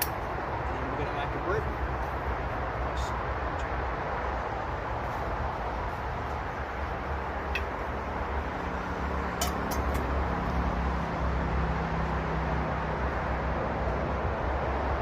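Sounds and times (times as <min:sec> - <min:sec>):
distant motorway traffic: 0:00.0 - 0:15.0
vehicle low hum: 0:00.0 - 0:15.0.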